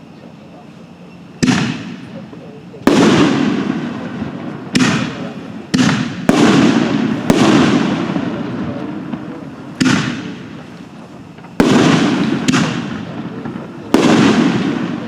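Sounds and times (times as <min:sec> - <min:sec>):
firework shells banging: 0:01.4 - 0:15.0.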